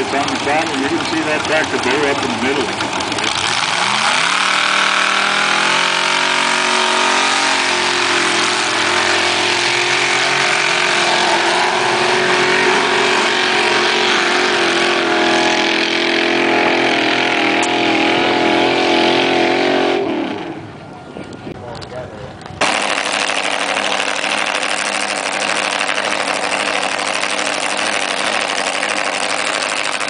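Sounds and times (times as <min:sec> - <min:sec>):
tractor engine at full throttle: 0:00.0 - 0:30.0.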